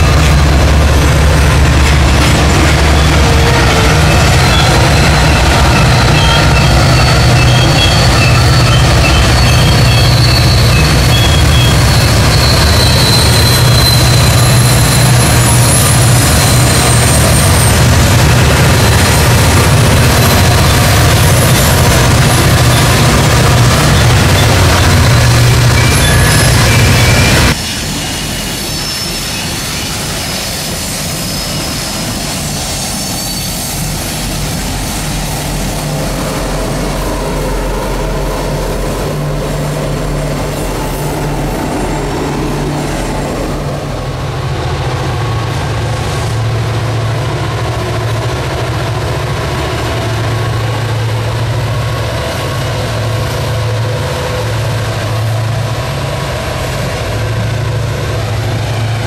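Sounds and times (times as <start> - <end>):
diesel locomotive engines droning: 0.0 - 59.0
train wheels rolling on rails: 0.0 - 59.0.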